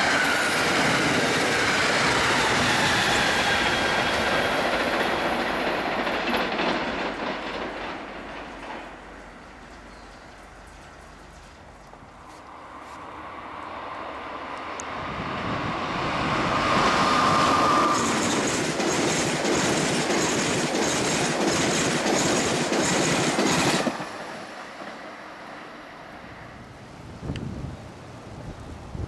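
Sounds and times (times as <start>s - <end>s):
rhythmic clicking of rails: 0.0s - 26.4s
train wheels rushing on rail: 0.0s - 26.9s.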